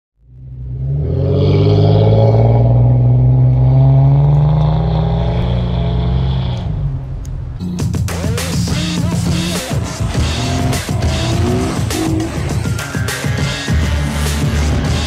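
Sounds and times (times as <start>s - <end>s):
vehicle engine droning: 0.2s - 15.0s.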